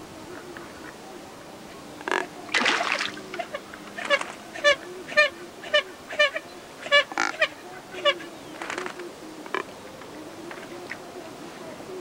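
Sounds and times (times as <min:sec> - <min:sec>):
waterbird calling: 0:02.0 - 0:12.0.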